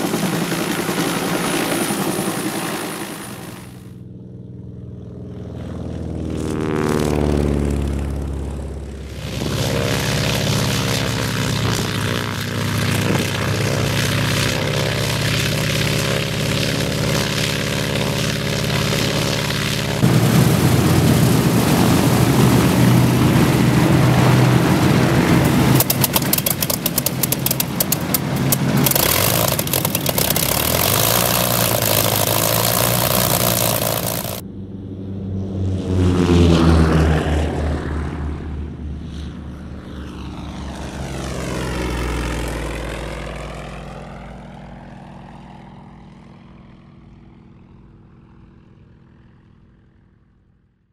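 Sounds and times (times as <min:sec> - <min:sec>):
propeller plane engine running: 0:00.0 - 0:50.7
twin-engine plane passing by: 0:00.0 - 0:50.7.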